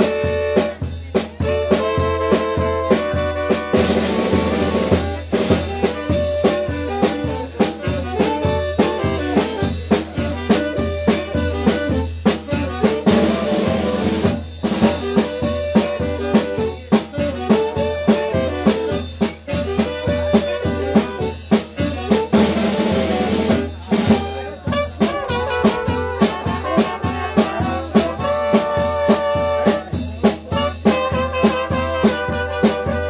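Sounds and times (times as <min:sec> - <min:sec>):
drum kit steady beat: 0:00.0 - 0:33.0.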